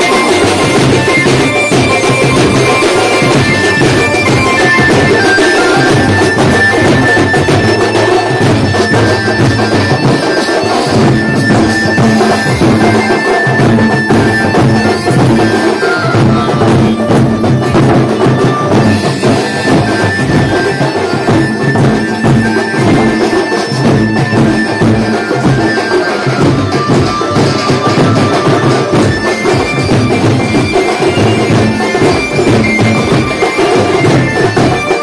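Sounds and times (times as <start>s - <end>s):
reedy wind instrument melody: 0.0s - 35.0s
steady drum beat: 0.0s - 35.0s.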